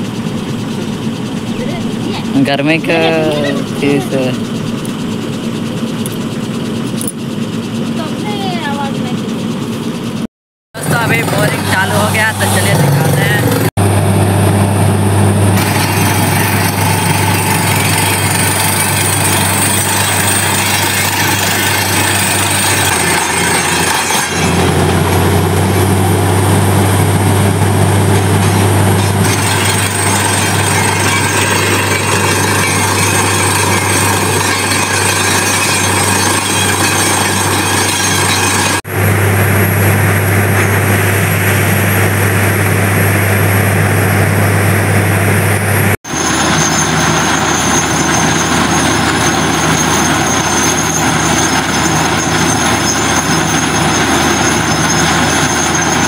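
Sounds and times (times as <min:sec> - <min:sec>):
heavy engine and compressor drone: 0:00.0 - 0:56.0.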